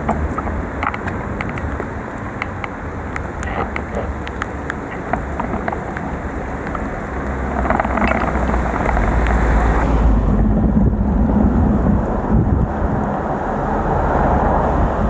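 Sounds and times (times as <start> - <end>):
bicycle wet road noise: 0.0 - 15.0
heavy rain: 0.0 - 15.0
raindrops striking microphone: 0.0 - 15.0
wind buffeting microphone: 0.0 - 15.0.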